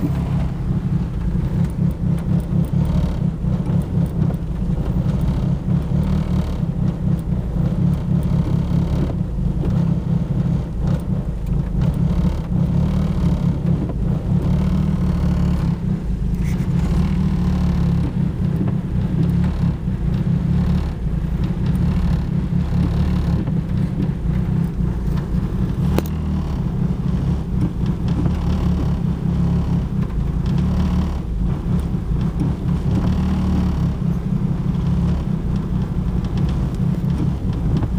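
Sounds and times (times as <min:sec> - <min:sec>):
car engine low rumble: 0:00.0 - 0:37.9.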